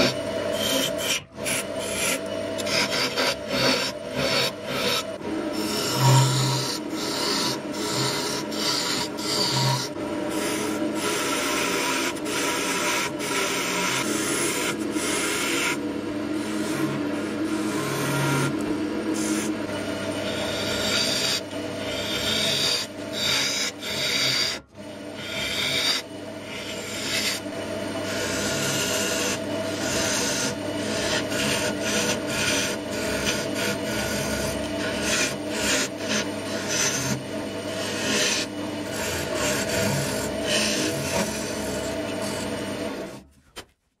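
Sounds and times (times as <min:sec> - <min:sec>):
lathe humming: 0:00.0 - 0:43.3
wood shaving on a lathe: 0:00.0 - 0:43.3.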